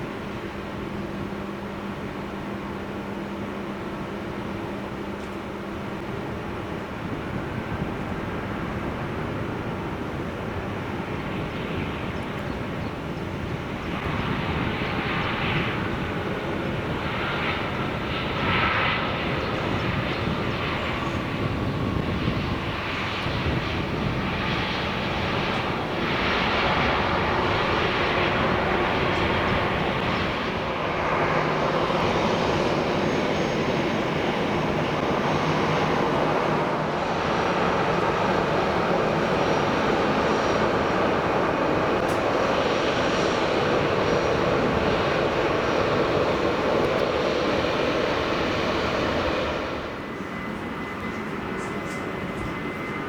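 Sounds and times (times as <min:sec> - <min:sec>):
jet airliner engines landing: 0:00.0 - 0:53.0.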